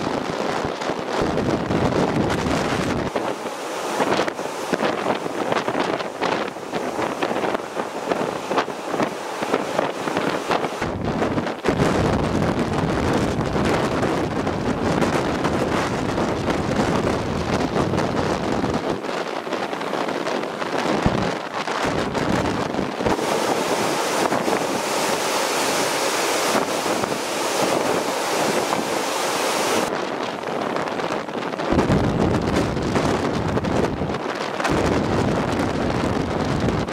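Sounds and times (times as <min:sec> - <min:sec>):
waves breaking on a bank: 0:00.0 - 0:36.9
wind buffeting microphone: 0:00.0 - 0:36.9.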